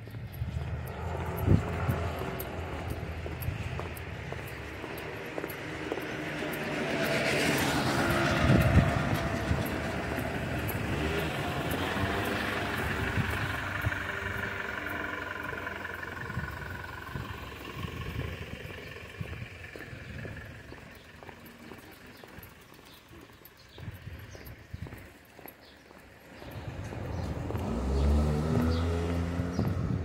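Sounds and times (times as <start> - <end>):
van driving past: 0.0 - 25.3, 26.0 - 30.0.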